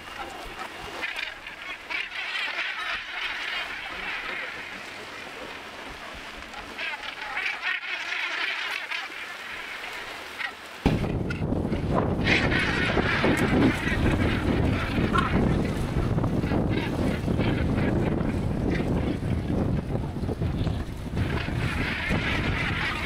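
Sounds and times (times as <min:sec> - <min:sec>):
gannets croaking: 0:00.0 - 0:23.0.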